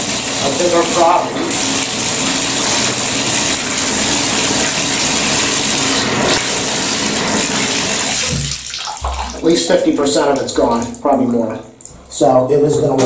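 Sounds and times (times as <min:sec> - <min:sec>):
tap water running into bathtub: 0:00.0 - 0:12.1.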